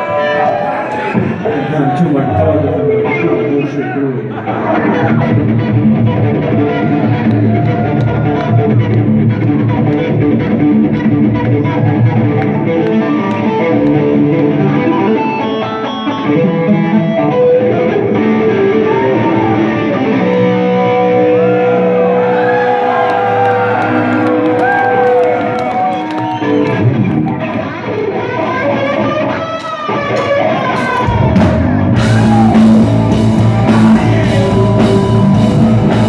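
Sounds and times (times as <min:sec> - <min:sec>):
electric guitar solo: 0:00.0 - 0:36.0.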